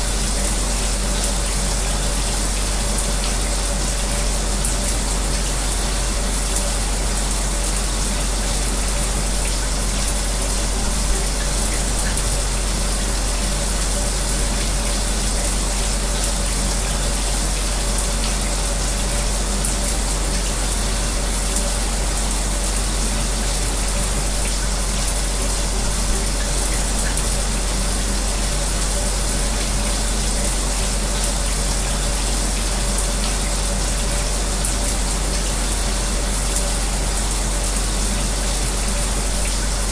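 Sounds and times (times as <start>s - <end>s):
electric fan humming: 0.0s - 39.9s
shower running: 0.0s - 39.9s.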